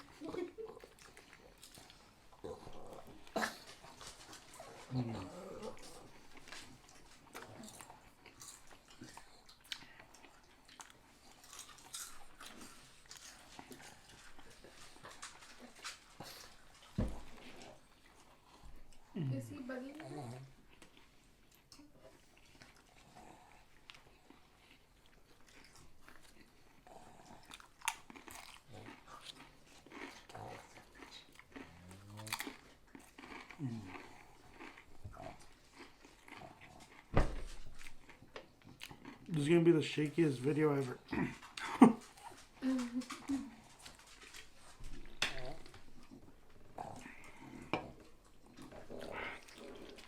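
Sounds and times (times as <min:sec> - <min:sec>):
chewing sandwich: 0:00.0 - 0:50.0.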